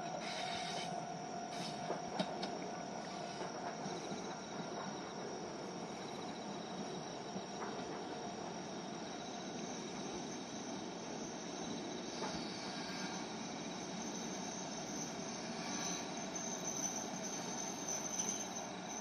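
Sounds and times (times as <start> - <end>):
crickets chirping: 0.0 - 19.0
diesel train running: 0.0 - 19.0.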